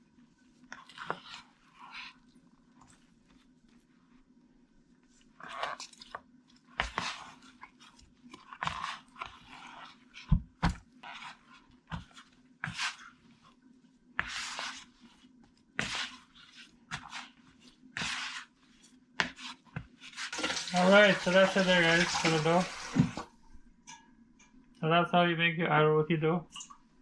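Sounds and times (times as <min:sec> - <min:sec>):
dough being kneaded by hand: 0:00.0 - 0:23.6.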